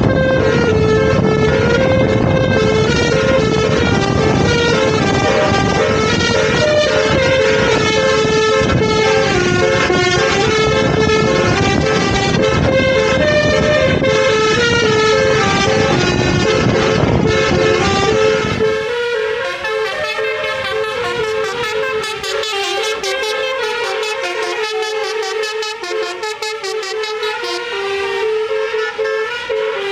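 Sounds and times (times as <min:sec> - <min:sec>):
multi-tone vehicle horn melody: 0:00.0 - 0:29.9
road and engine noise: 0:00.0 - 0:29.9.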